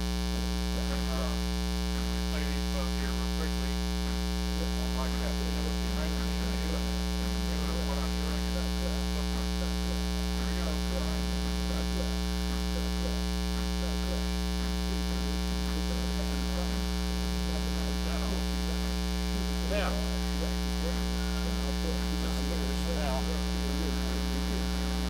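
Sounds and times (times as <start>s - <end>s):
buzzy mains hum: 0.0s - 25.0s.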